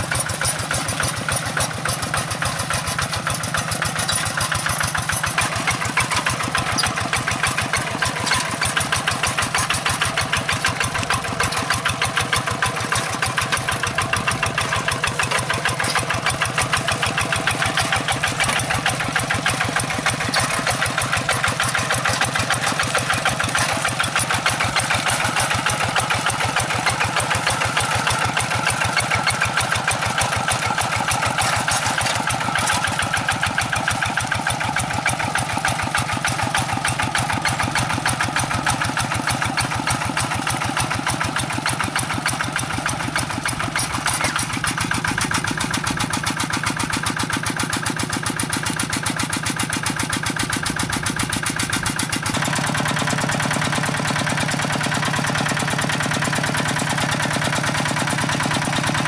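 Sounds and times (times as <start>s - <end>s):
diesel engine chugging: 0.0s - 59.0s
wheels churning water: 0.0s - 59.0s.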